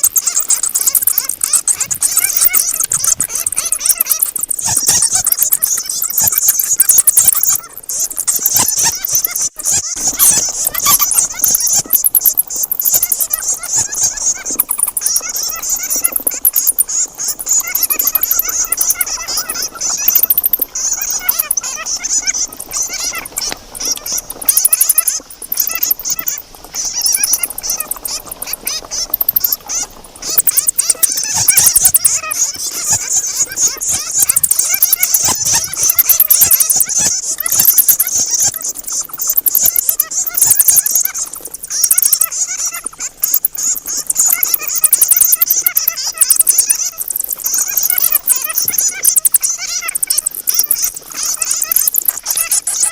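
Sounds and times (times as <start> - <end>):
bats chittering: 0.0 - 52.9.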